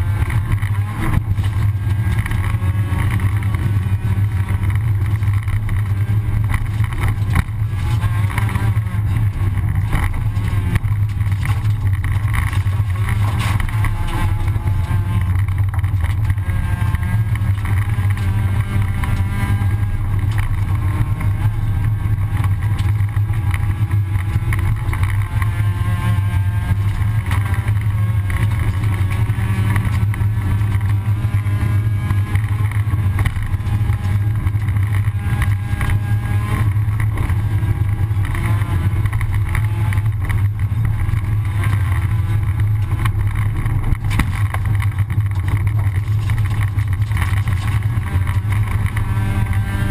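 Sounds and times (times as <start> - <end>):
rally car engine running hard: 0.0 - 49.9
tyre and gravel road noise: 0.0 - 49.9.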